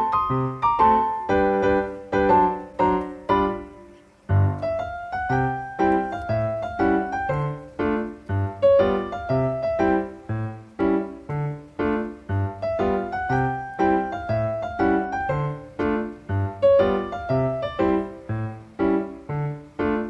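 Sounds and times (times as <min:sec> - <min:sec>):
piano melody: 0:00.0 - 0:20.0.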